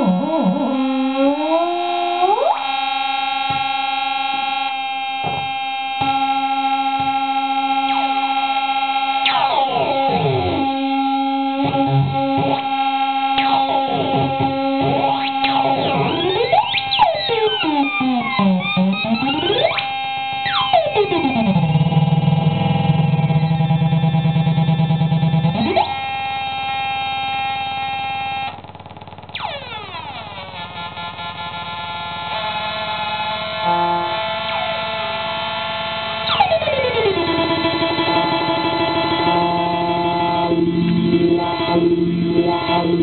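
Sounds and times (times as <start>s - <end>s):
analog synthesizer drone: 0.0s - 43.0s
synthesizer pitch glides: 0.0s - 43.0s.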